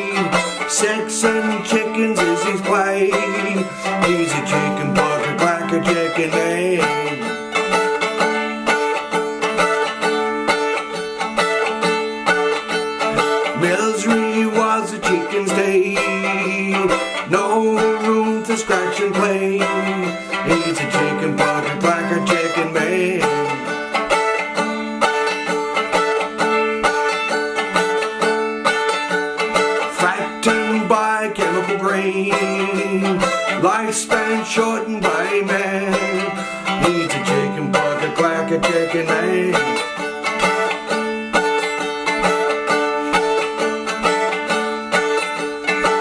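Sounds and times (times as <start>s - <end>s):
plucked strings country music: 0.0s - 46.0s.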